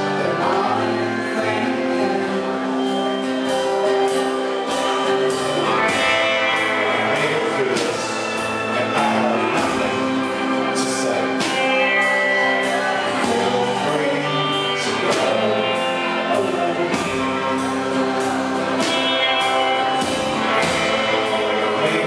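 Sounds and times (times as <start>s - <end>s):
band playing live: 0.0s - 22.0s
man singing: 0.0s - 22.0s.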